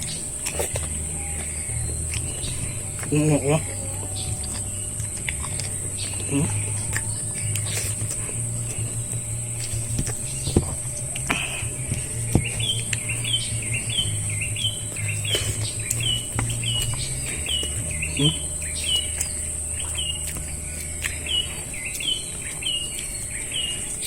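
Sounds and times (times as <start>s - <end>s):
bird chirping: 0.0s - 24.0s
high-pitched insect drone: 0.0s - 24.0s.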